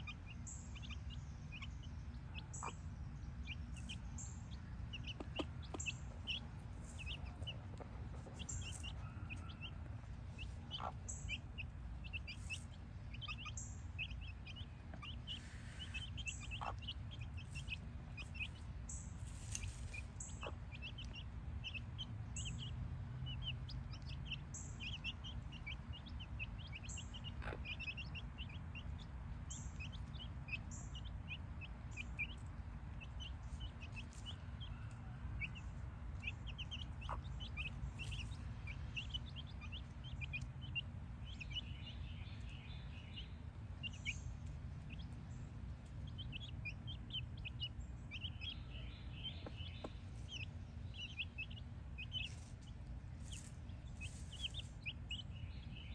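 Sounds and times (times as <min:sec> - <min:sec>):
chicks peeping: 0:00.0 - 0:55.9
low steady rumble: 0:00.0 - 0:55.9.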